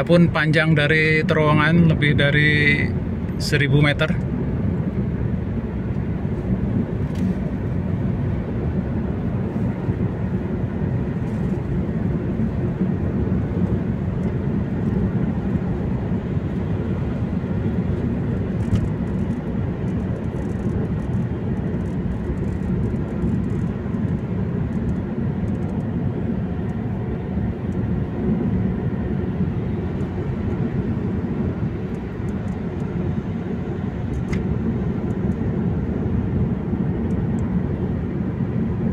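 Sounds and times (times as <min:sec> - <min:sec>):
car interior road rumble: 0:00.0 - 0:38.9.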